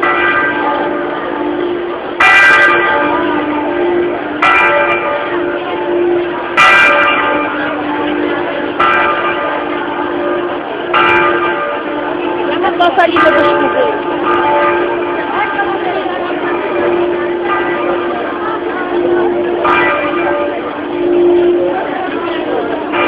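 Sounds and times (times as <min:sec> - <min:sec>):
church bell ringing: 0:00.0 - 0:23.0.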